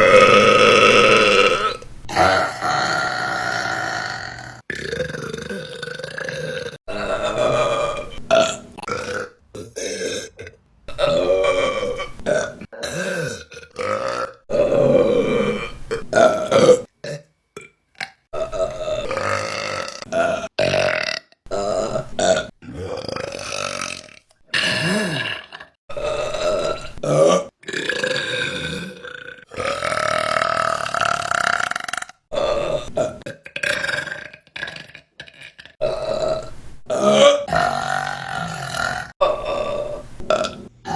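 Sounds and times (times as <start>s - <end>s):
woman burping: 0.0s - 40.9s.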